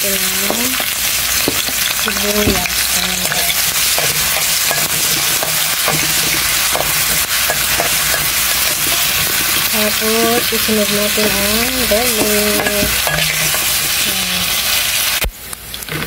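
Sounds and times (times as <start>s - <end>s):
onions sizzling in oil: 0.0s - 16.0s
spatula scraping a pan: 0.8s - 14.8s.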